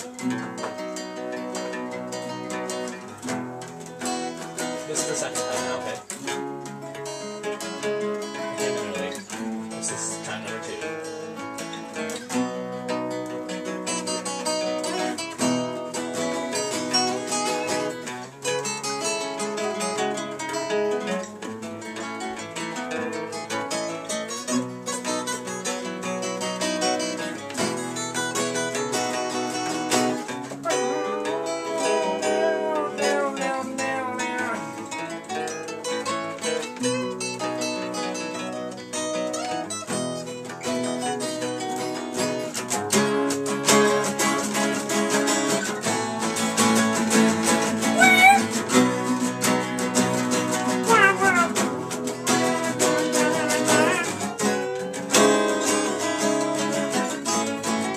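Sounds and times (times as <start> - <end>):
acoustic guitars playing: 0.0 - 57.9.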